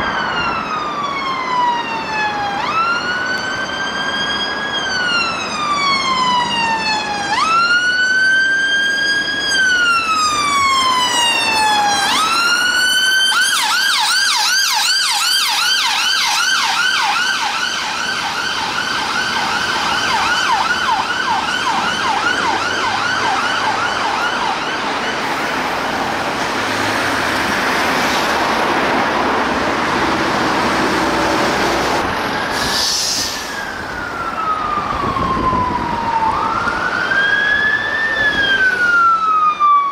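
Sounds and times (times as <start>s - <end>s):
emergency vehicle siren wailing: 0.0s - 39.9s
road noise: 0.0s - 39.9s.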